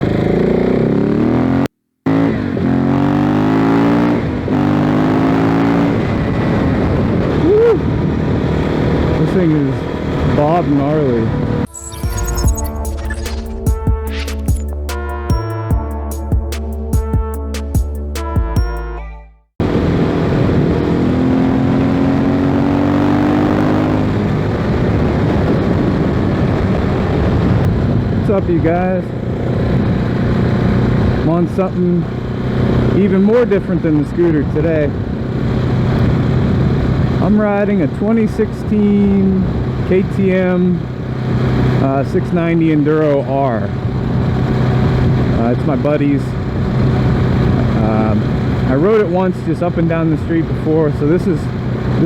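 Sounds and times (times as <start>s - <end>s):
motorcycle engine accelerating: 0.0s - 17.9s, 19.6s - 37.9s, 43.7s - 52.0s.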